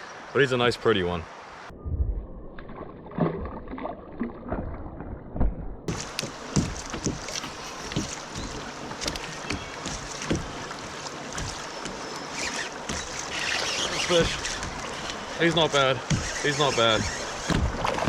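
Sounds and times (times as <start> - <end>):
river water: 0.0 - 1.7, 2.6 - 18.0
knocks and splashes on hull: 2.6 - 18.0.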